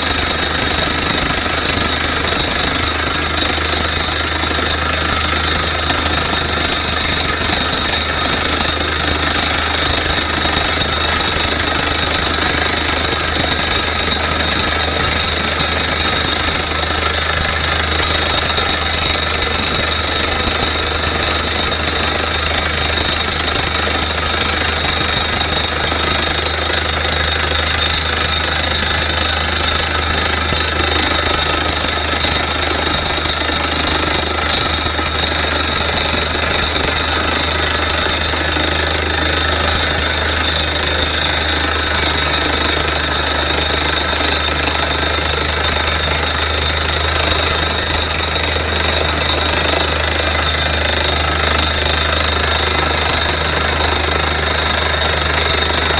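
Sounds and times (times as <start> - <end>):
drilling rig air hammer: 0.0 - 55.9
engine and compressor running: 0.0 - 55.9.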